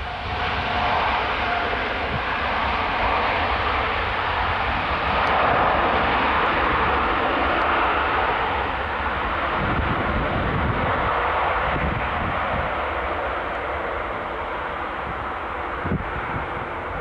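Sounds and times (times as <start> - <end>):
jet engines roaring: 0.0 - 17.0
wind buffeting microphone: 0.0 - 17.0.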